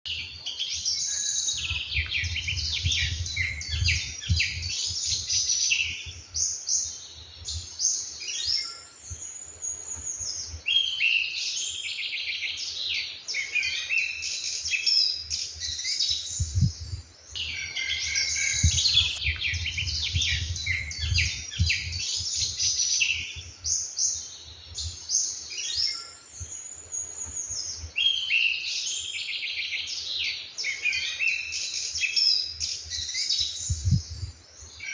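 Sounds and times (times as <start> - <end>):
songbirds chorus: 0.1 - 34.9.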